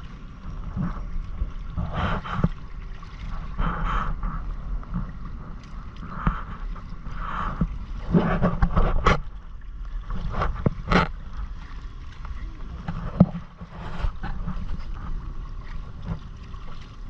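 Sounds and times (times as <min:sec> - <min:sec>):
water splashing against kayak hull: 0:00.0 - 0:17.0
wind rumble on microphone: 0:00.0 - 0:17.0.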